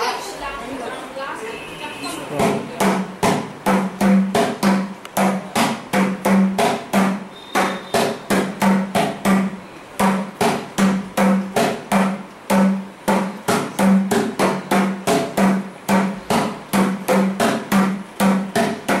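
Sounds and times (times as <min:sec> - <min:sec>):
hand drum played in quick rhythm: 0:02.4 - 0:19.0.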